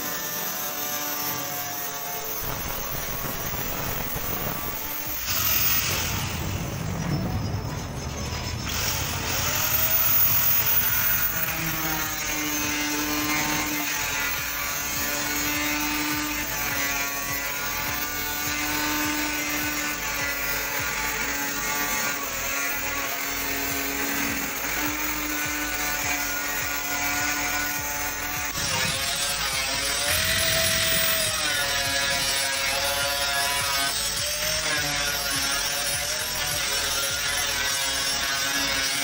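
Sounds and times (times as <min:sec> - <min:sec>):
angle grinder cutting steel sheet: 0:00.0 - 0:39.0.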